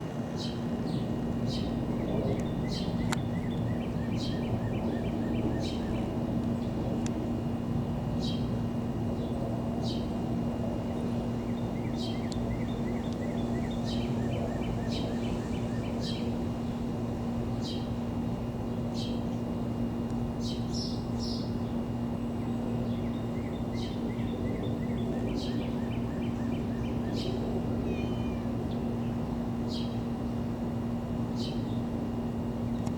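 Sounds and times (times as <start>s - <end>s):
airliner flying overhead: 0.0s - 32.9s
birds chirping: 0.3s - 7.2s, 8.0s - 18.0s, 18.6s - 30.3s, 30.9s - 32.9s.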